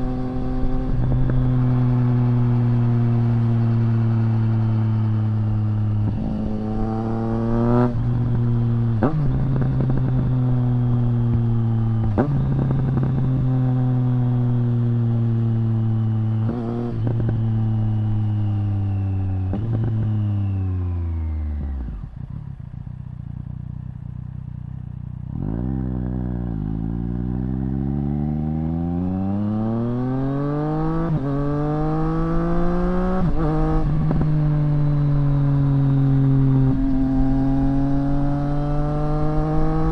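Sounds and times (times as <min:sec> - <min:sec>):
motorcycle accelerating through upshifts: 0:00.0 - 0:39.9.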